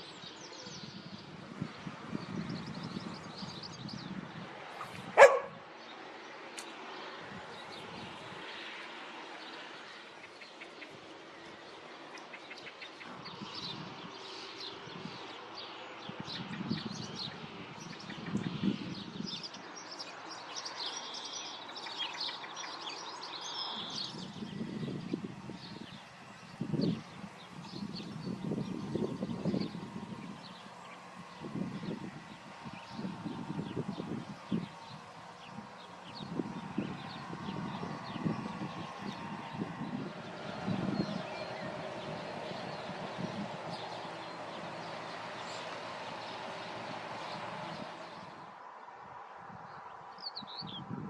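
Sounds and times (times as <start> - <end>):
small birds chirping: 0.0 - 48.5.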